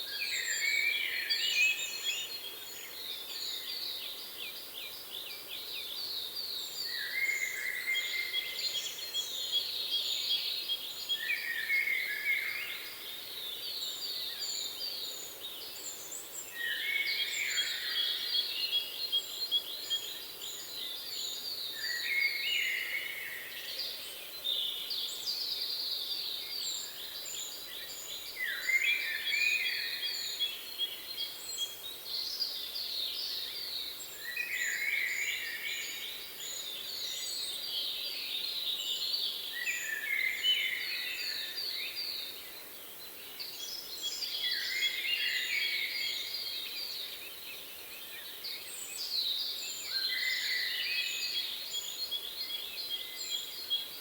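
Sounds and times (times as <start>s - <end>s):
faint outdoor hiss: 0.0s - 54.0s
songbirds singing: 0.0s - 54.0s.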